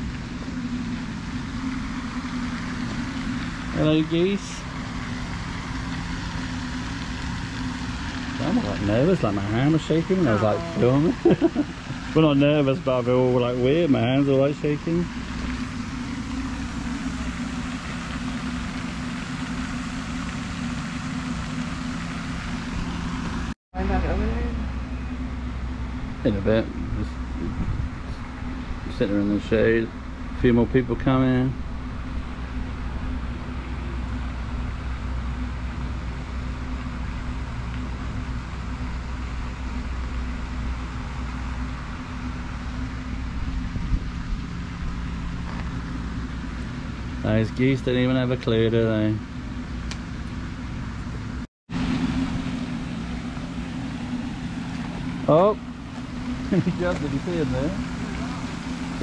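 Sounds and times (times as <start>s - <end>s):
low mechanical hum: 0.0s - 59.0s
steady low rumble: 0.0s - 59.0s.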